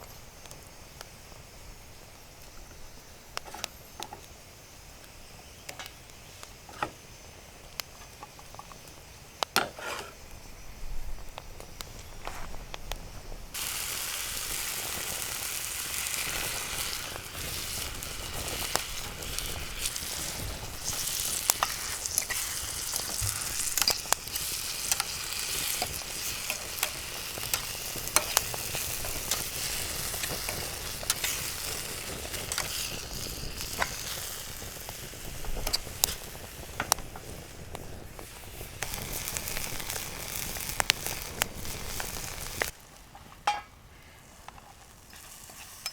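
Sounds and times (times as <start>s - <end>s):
mushrooms sizzling in butter: 0.0s - 43.6s, 44.2s - 45.9s.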